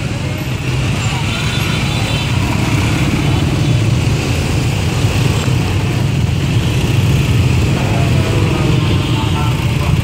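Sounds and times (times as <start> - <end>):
scooter and motorbike engines: 0.0 - 10.0.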